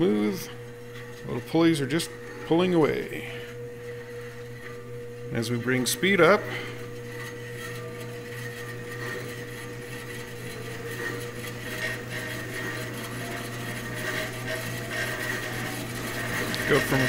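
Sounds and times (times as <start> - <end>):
bandsaw motor hum and whine: 0.0 - 17.0.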